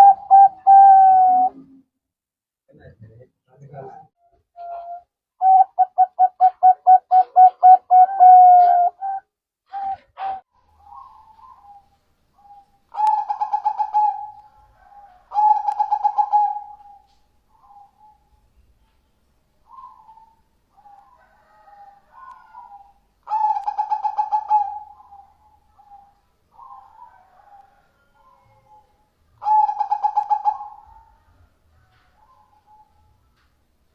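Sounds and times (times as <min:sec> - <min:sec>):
dove cooing: 0:00.0 - 0:01.8, 0:04.6 - 0:18.5, 0:19.6 - 0:31.2.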